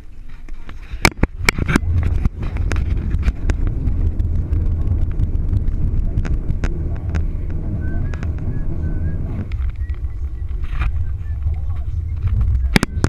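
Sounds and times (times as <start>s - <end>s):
car road and engine rumble: 0.0s - 13.0s
wind on microphone: 0.6s - 13.0s
sharp clicks and ticks: 1.0s - 13.0s.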